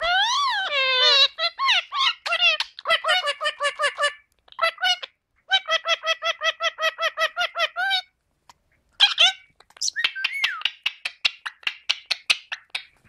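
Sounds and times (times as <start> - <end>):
parakeet calling: 0.0 - 8.1, 9.0 - 13.0.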